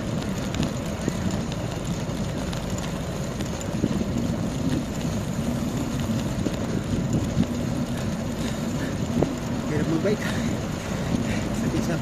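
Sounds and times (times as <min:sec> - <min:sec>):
low even rumble: 0:00.0 - 0:12.0
wind rush on microphone: 0:00.0 - 0:12.0.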